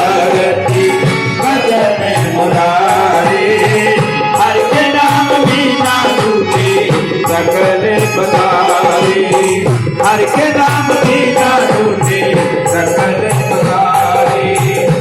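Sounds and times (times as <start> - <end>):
devotional hymn music: 0.0 - 15.0
rattling hand percussion: 0.0 - 15.0
tabla rhythm: 0.0 - 15.0.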